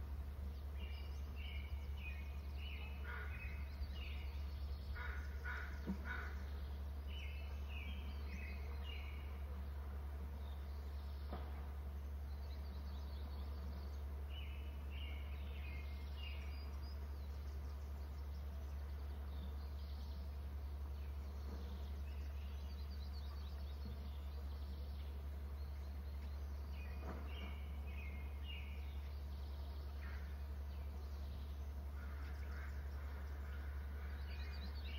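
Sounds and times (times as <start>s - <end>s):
songbirds singing: 0.0s - 34.9s
steady low hum: 0.0s - 34.9s.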